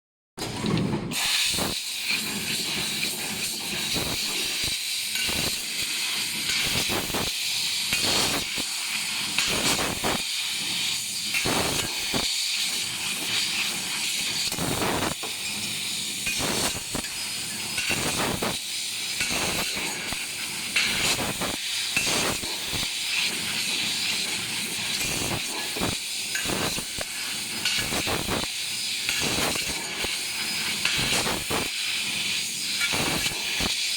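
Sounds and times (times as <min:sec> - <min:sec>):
assist gas hissing: 0:01.2 - 0:33.9.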